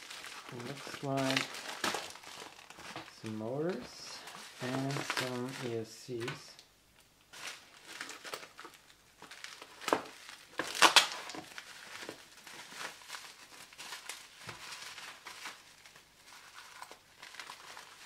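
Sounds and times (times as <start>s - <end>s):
bubble wrap crackles: 0.0s - 18.0s
bubble wrap crinkling: 0.0s - 18.0s.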